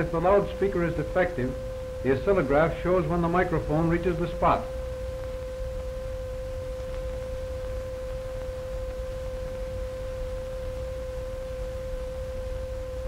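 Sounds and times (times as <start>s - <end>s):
steady test tone: 0.0s - 13.0s.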